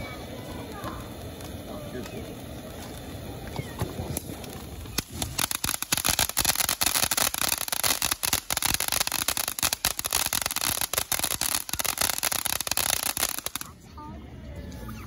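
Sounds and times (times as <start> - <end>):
firework crackling pops: 0.0 - 13.8
firework fountain hissing: 0.0 - 13.9.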